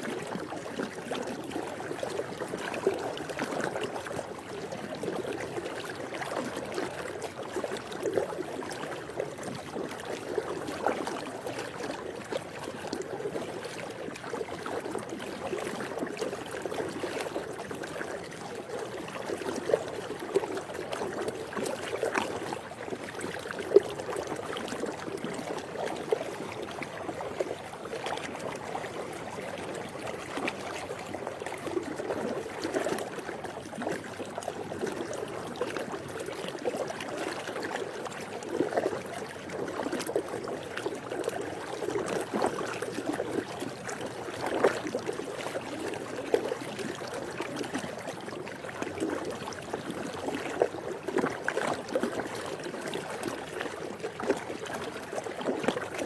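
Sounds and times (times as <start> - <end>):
pool water lapping and sloshing: 0.0 - 56.0
small water splashes: 0.0 - 56.0.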